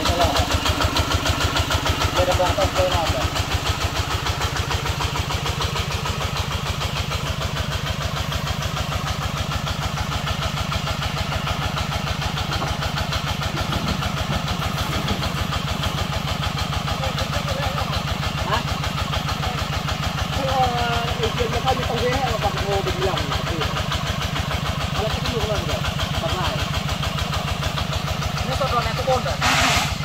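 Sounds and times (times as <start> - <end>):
diesel tractor engine chugging: 0.0 - 30.0.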